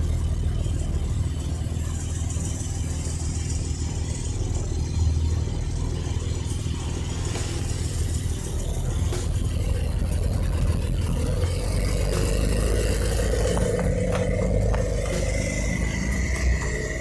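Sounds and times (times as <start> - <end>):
race car engine rumbling: 0.0 - 17.0.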